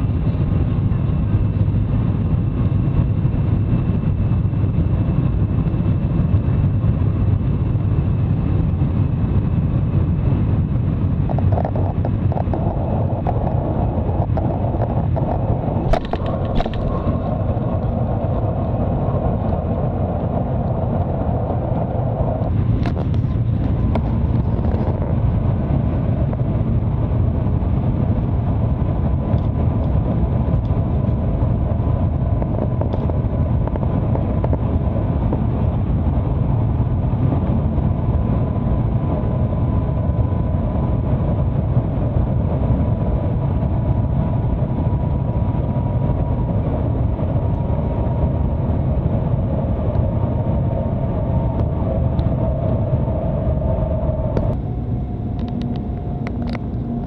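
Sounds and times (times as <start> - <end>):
faint whine: 0.0 - 57.0
train cabin low rumble: 0.0 - 57.0.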